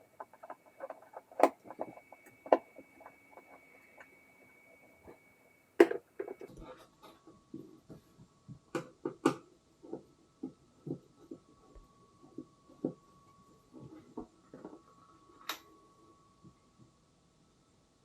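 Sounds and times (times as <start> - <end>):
faint steady whine: 0.0 - 18.0.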